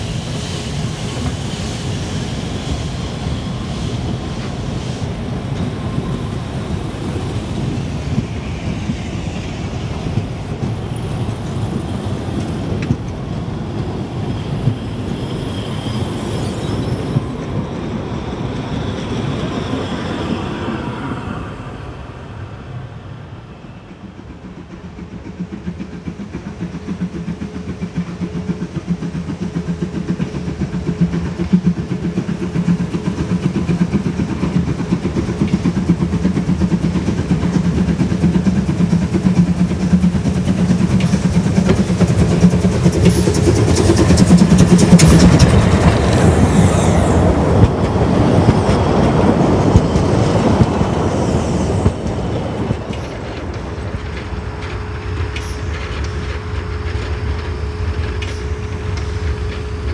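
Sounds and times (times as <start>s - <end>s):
steam locomotive hum with beats: 0.0s - 59.9s
train wheels clattering over rail joints: 0.7s - 19.8s, 24.0s - 59.9s.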